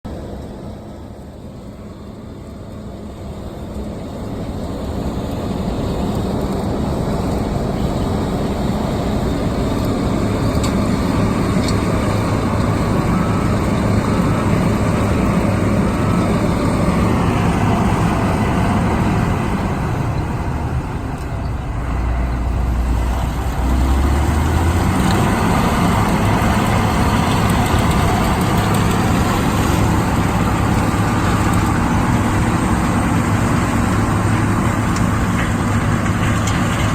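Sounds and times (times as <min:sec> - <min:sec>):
combine harvester running: 0:00.1 - 0:36.9.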